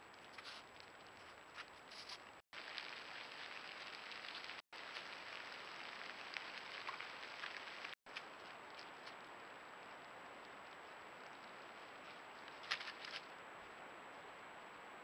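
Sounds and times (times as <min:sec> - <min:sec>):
small ticks and patters: 0:00.0 - 0:14.9.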